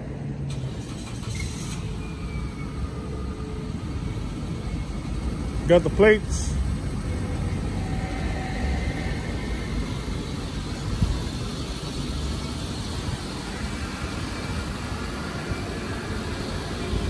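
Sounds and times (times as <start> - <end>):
low rumble of motor vehicles: 0.0 - 17.0.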